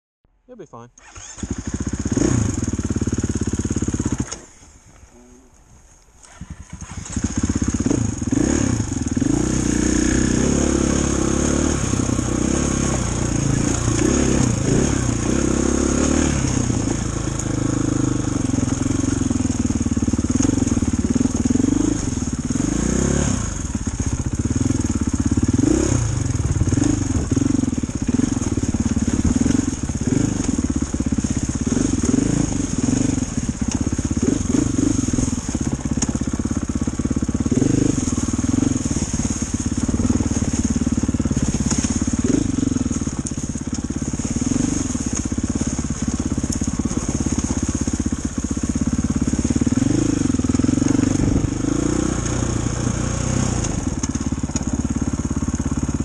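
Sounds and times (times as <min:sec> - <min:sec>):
dirt bike engine revving: 0:01.0 - 0:04.6, 0:06.2 - 0:56.0.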